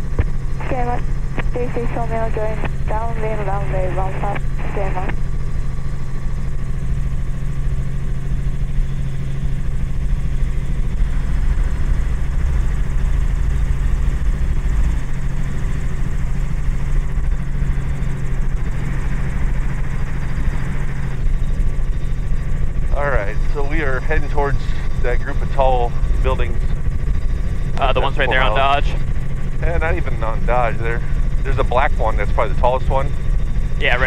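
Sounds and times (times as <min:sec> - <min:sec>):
helicopter rotor and engine drone: 0:00.0 - 0:34.0.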